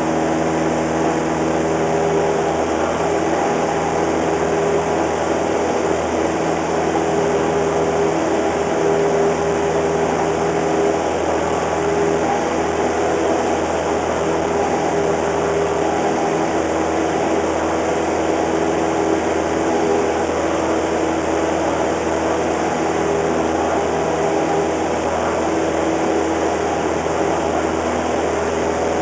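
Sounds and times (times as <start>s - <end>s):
propeller plane engine drone: 0.0s - 29.0s.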